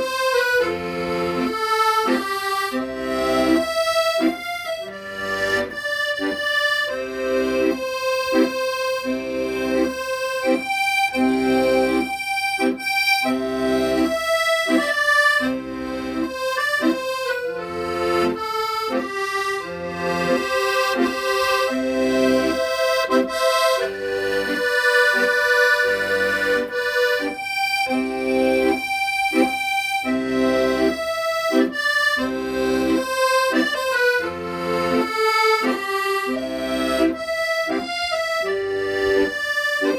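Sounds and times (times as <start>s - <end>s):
accordion melody: 0.0s - 39.9s.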